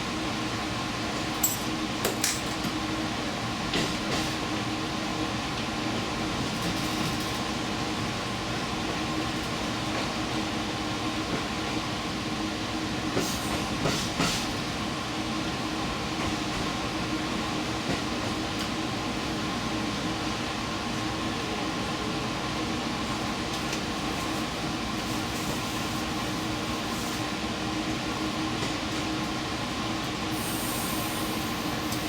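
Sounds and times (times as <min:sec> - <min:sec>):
train rumbling on the move: 0:00.0 - 0:32.0.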